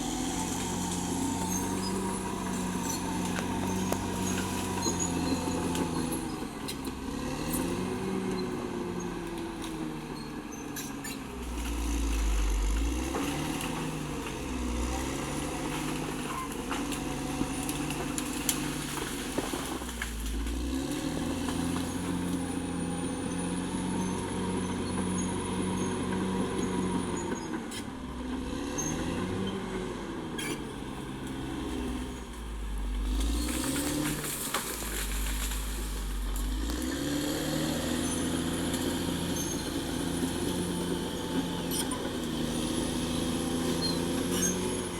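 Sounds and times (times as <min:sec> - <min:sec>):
bulldozer diesel engine working: 0:00.0 - 0:44.9.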